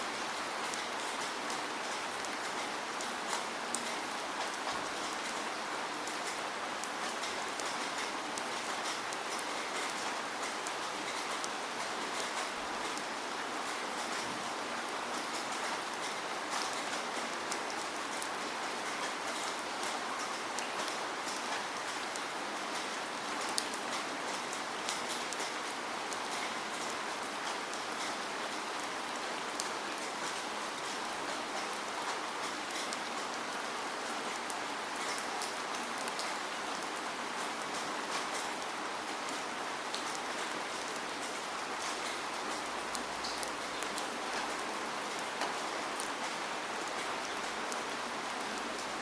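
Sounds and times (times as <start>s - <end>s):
raindrops ticking on surfaces: 0.0s - 49.0s
steady rain hiss: 0.0s - 49.0s.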